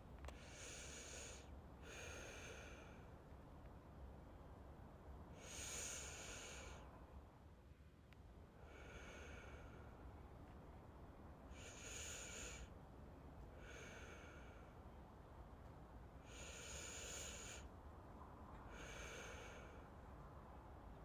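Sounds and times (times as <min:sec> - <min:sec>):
faint low hum: 0:00.0 - 0:21.0
soft slow breathing: 0:00.2 - 0:03.4, 0:05.3 - 0:07.1, 0:08.5 - 0:10.7, 0:11.3 - 0:21.0.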